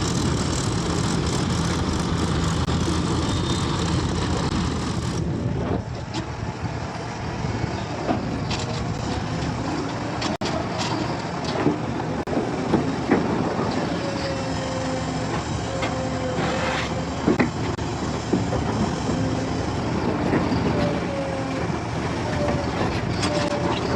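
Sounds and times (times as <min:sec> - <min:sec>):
heavy machinery engine: 0:00.0 - 0:23.9.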